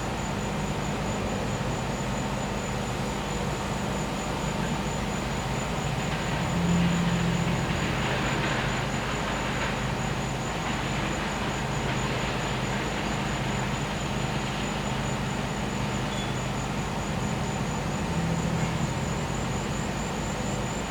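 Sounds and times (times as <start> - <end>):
crickets trilling: 0.0 - 20.9.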